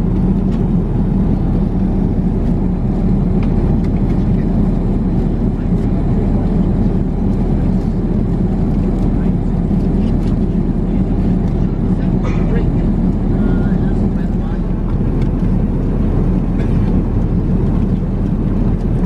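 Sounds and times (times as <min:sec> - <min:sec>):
airliner cabin airflow and engine drone: 0:00.0 - 0:19.0.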